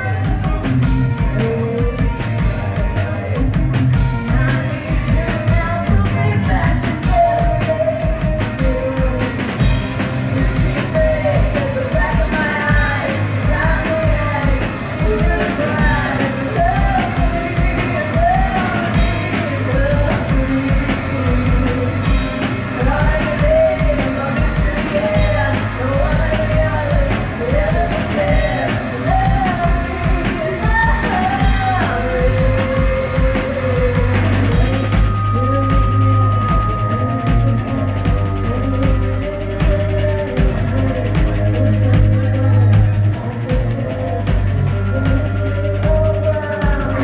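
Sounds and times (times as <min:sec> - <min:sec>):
bass guitar: 0:00.0 - 0:47.0
distorted electric guitars: 0:00.0 - 0:47.0
drum kit beat: 0:00.0 - 0:47.0
woman singing lead vocals: 0:00.0 - 0:47.0.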